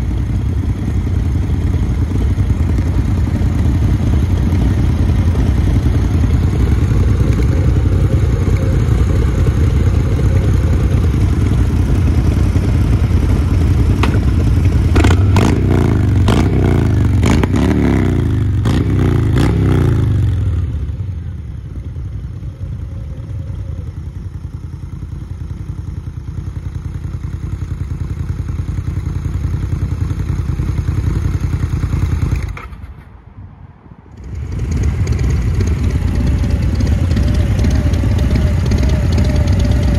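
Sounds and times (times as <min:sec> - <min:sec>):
motorcycle idling: 0:00.0 - 0:33.0, 0:34.1 - 0:39.9
motorcycle engines revving: 0:00.0 - 0:33.1, 0:34.1 - 0:39.9.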